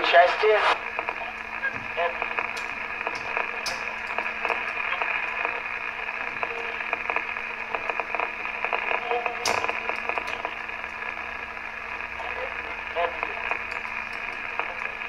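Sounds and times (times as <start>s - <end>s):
low steady hum: 0.0s - 15.0s
radio static hiss: 0.0s - 15.0s
small crackles: 0.8s - 15.0s.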